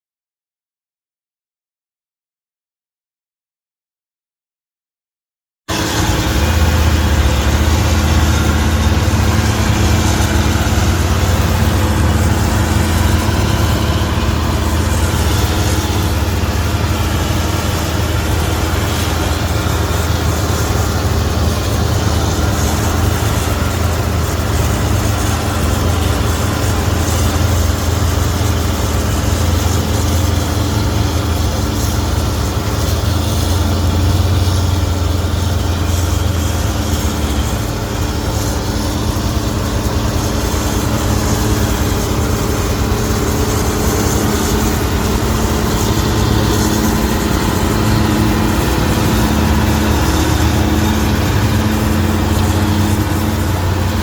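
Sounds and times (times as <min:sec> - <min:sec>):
large engine running: 0:05.7 - 0:54.0.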